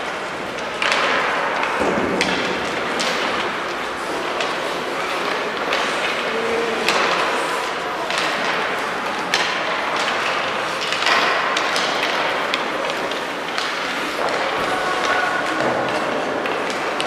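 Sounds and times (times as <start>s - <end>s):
hockey sticks and puck clacking: 0.0s - 17.0s.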